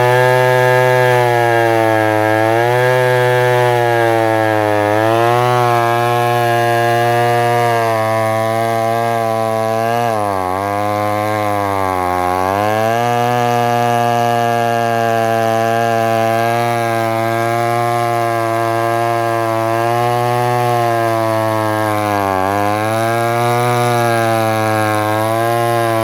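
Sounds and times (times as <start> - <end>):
chainsaw cutting log: 0.0 - 26.0.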